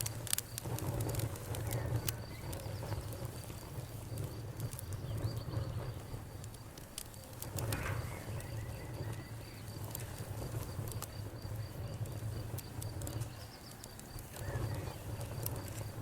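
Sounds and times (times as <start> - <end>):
campfire crackling and popping: 0.0 - 16.0
cricket chirping: 0.0 - 16.0.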